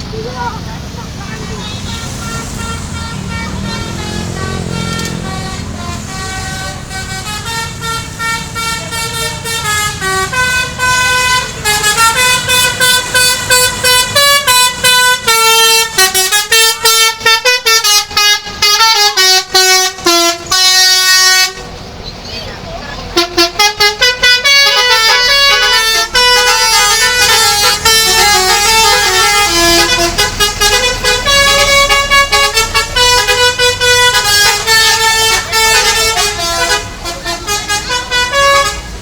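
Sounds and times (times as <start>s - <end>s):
multi-tone bus horn tune: 1.3s - 21.7s, 22.9s - 39.0s.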